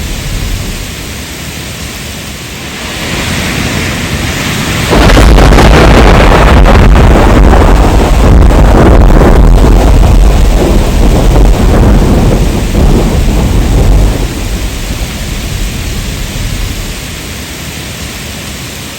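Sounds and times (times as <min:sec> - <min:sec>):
deep thunder rumble: 0:00.0 - 0:01.3, 0:02.7 - 0:17.4
heavy rain: 0:00.0 - 0:18.9.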